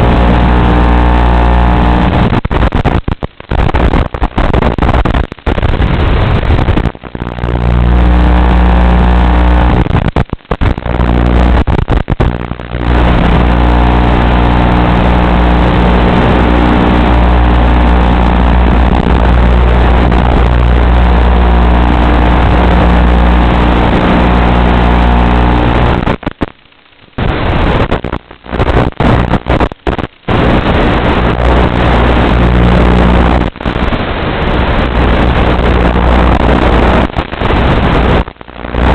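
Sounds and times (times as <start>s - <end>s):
wind noise: 0.0s - 26.5s, 27.2s - 38.9s.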